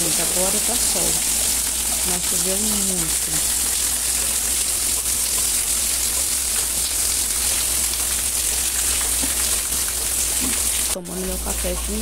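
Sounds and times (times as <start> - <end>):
rain on concrete and rooftops: 0.0 - 12.0
water streaming off a roof: 0.0 - 12.0.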